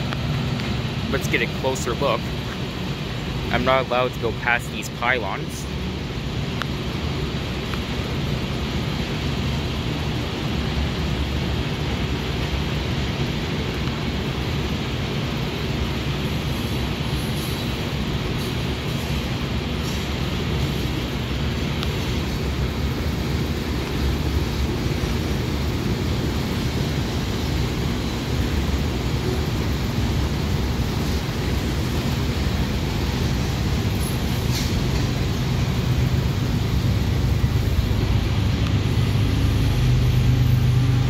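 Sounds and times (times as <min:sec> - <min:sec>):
steel train wheels on rails: 0:06.3 - 0:41.0.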